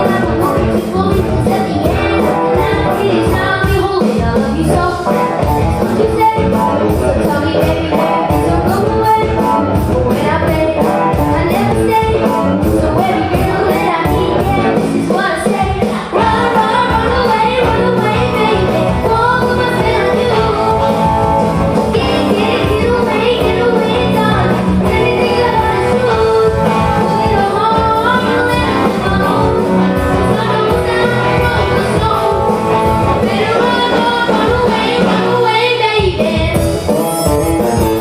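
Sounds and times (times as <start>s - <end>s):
person singing: 0.0s - 21.2s, 21.8s - 38.0s
rock band playing: 0.0s - 38.0s.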